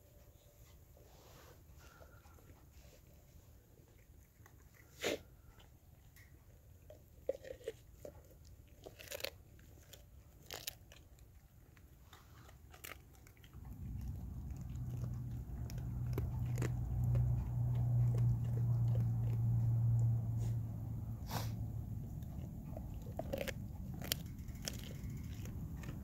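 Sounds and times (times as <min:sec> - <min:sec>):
low steady hum: 0:00.0 - 0:26.0
dog crunching raw fish: 0:03.7 - 0:26.0.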